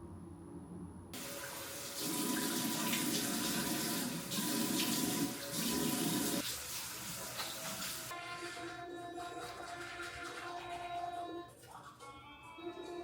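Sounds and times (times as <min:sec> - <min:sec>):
tap water running into sink: 0:01.2 - 0:11.9.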